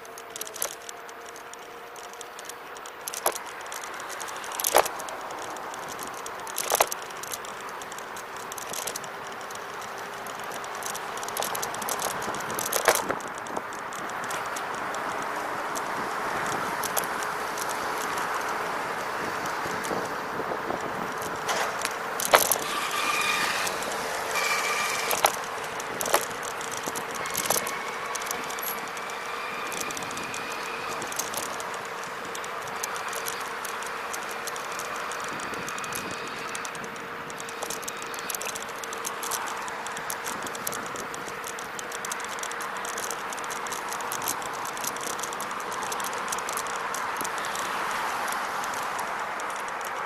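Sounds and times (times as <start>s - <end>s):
passing road traffic: 0.0s - 50.0s
scooter frame rattling: 0.0s - 50.0s.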